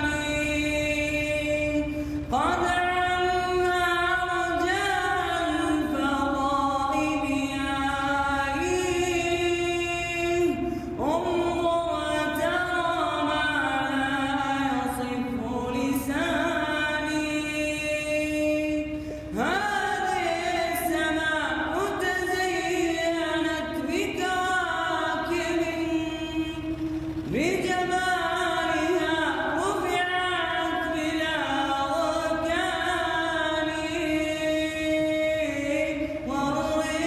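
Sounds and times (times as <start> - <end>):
young man singing unaccompanied: 0.0 - 37.0.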